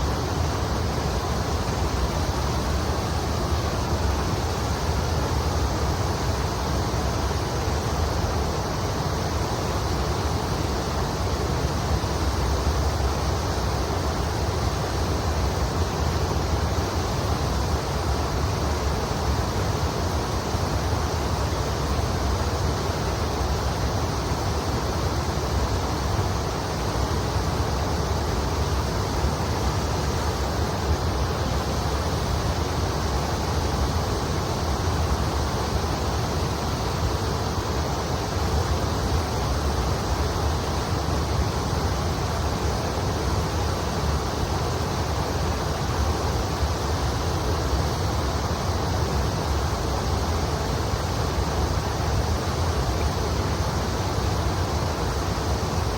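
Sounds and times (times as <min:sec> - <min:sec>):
river water rushing over stones: 0:00.0 - 0:55.9.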